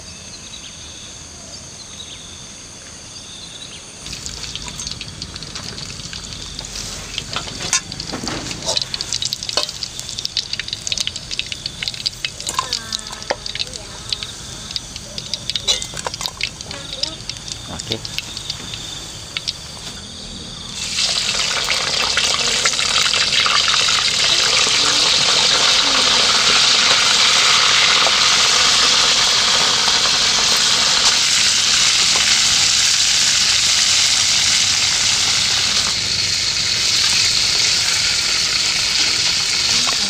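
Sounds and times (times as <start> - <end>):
meat sizzling in hot oil: 4.0 - 20.0, 20.7 - 40.0.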